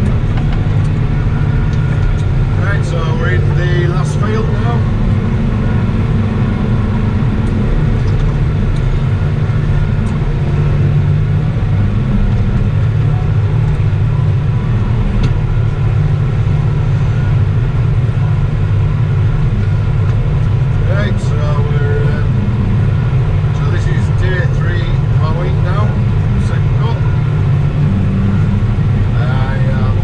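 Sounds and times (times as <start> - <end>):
tractor engine droning: 0.0 - 30.0.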